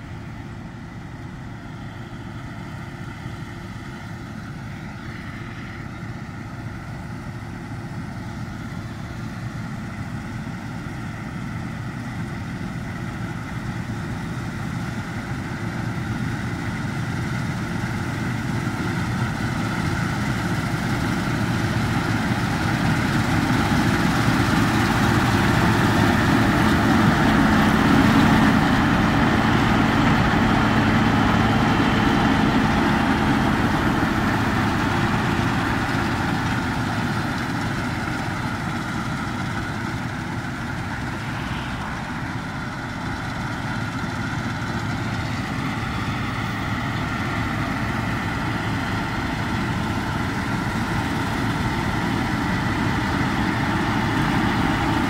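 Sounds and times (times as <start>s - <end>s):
combine harvester engine droning: 0.0s - 55.0s.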